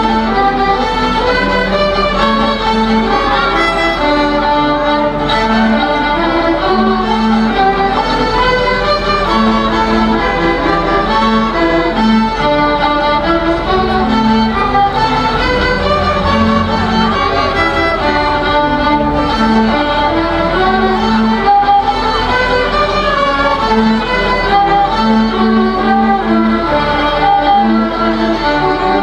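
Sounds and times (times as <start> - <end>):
string ensemble playing: 0.0 - 29.0.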